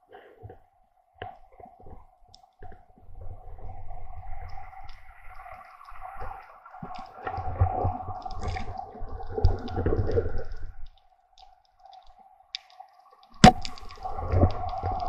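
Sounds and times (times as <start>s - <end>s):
water rushing against camera: 2.6s - 15.0s.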